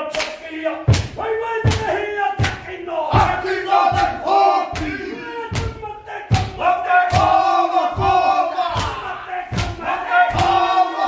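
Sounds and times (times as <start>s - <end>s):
men shouting a rhythmic chant: 0.0s - 11.0s
heavy stamps or slaps: 0.1s - 10.9s.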